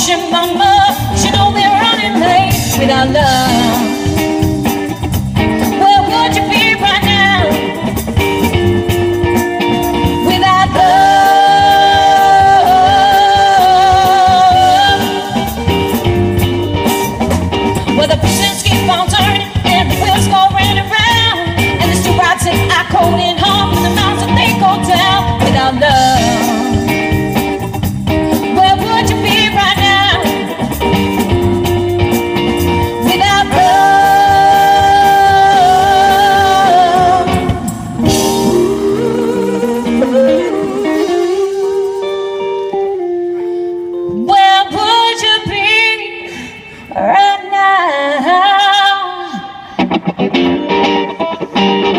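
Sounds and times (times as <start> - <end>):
live pop-rock band playing: 0.0 - 51.9
saxophone lead: 0.7 - 45.1.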